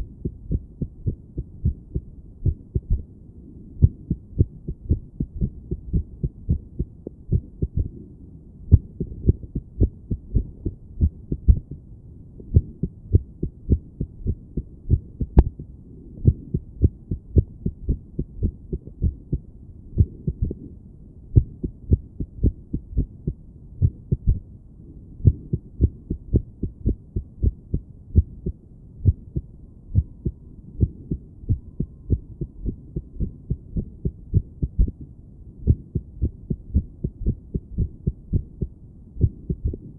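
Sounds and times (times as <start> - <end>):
irregular heartbeat thumping: 0.0 - 3.1, 3.8 - 7.9, 8.7 - 11.8, 12.5 - 20.7, 21.4 - 24.5, 25.2 - 39.9.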